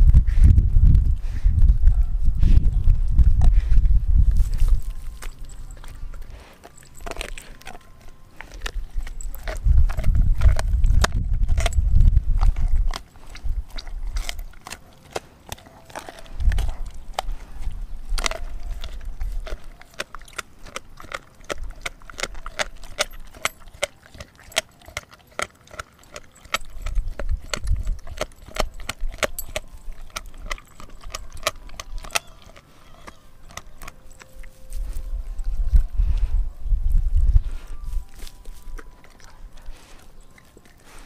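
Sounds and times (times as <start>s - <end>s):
dog teeth crunching on bone: 3.0s - 36.0s, 37.5s - 41.0s.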